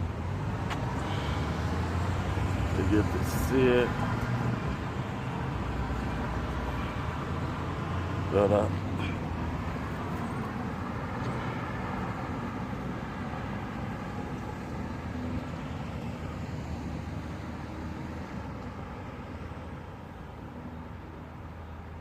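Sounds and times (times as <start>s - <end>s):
vehicle passing on road: 0.0s - 21.9s.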